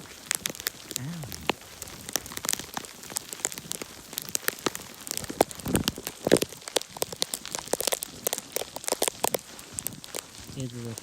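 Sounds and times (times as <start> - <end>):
sleet pattering on surfaces: 0.0 - 11.0.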